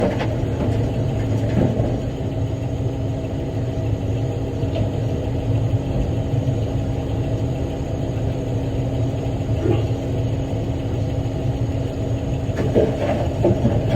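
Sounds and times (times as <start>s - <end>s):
diesel truck engine idling: 0.0s - 13.9s.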